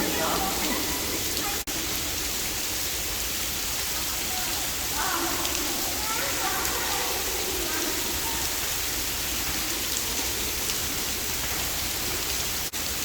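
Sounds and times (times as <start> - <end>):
indoor rain hissing onto floor: 0.0 - 13.0.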